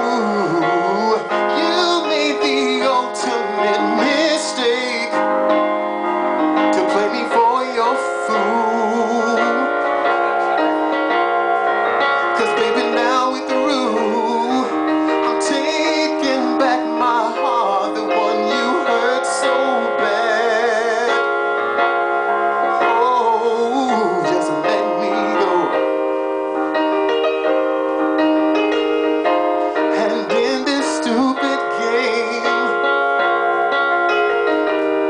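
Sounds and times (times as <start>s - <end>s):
man singing with vibrato: 0.0s - 26.3s, 29.2s - 34.5s
electronic keyboard piano chords: 0.0s - 35.0s.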